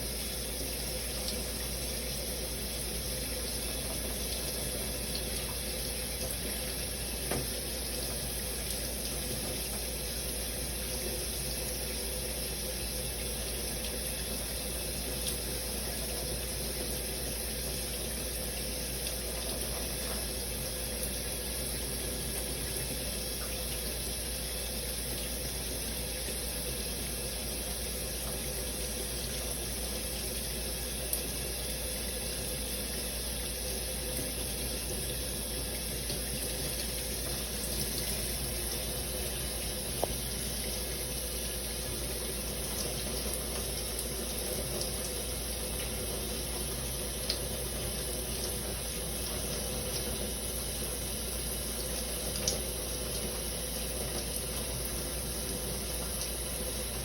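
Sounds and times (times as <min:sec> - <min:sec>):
shower spray running: 0:00.0 - 0:57.0.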